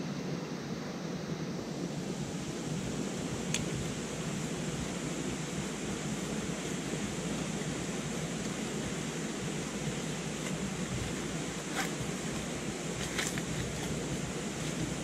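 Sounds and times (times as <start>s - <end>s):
river rapids rushing: 1.6s - 15.0s.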